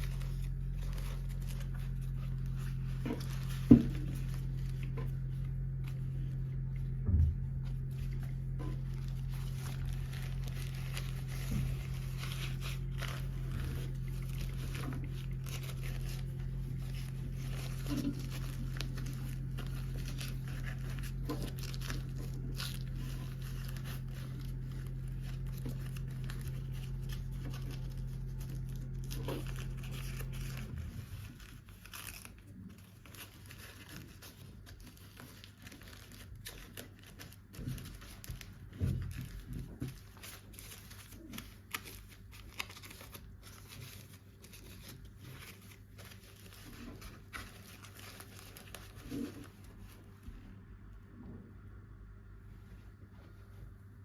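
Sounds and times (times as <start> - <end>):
packaging crinkling and tearing: 0.0 - 6.7, 7.6 - 50.0
low steady hum: 0.0 - 54.0.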